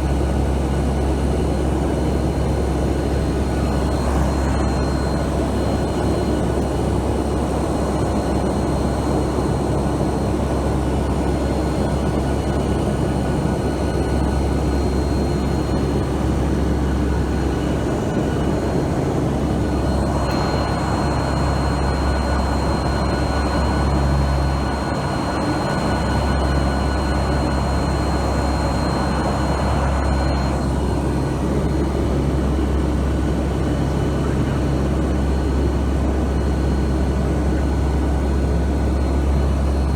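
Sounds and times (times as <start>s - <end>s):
deep propeller hum: 0.0s - 39.9s
faint high whine: 0.1s - 39.9s.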